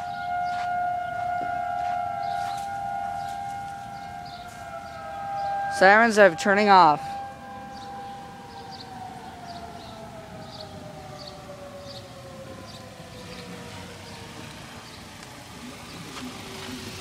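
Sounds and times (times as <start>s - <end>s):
siren winding down: 0.0s - 17.0s.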